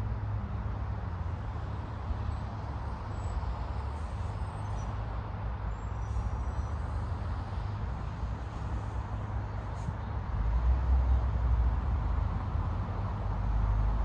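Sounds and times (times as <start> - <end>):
road traffic: 0.0 - 14.0
wind: 0.0 - 14.0.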